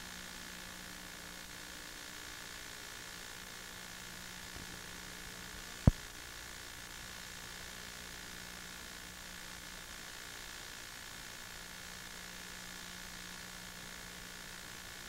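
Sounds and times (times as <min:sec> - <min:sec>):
steady film hiss: 0:00.0 - 0:15.0.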